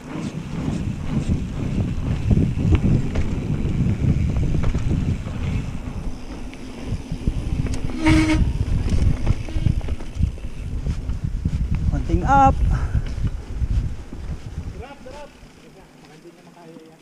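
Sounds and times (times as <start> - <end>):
wind buffeting microphone: 0.0 - 15.5
bike rattling over bumps: 0.0 - 17.0
bike tyre rumble on dirt: 0.0 - 17.0.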